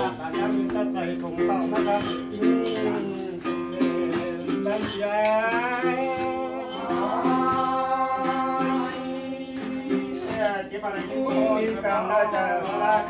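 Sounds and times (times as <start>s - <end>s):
plucked lute: 0.0s - 13.0s.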